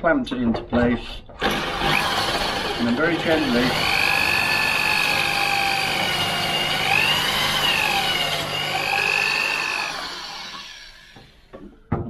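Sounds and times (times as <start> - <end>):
drill motor whine: 1.4 - 11.5.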